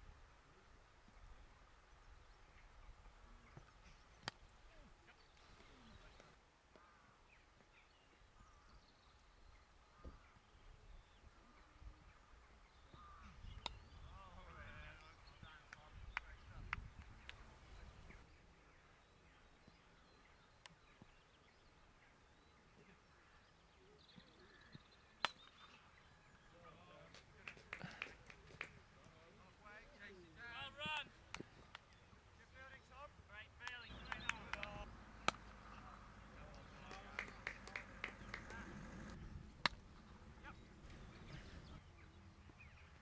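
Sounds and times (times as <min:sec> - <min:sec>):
faint birdsong: 0:00.2 - 0:43.0.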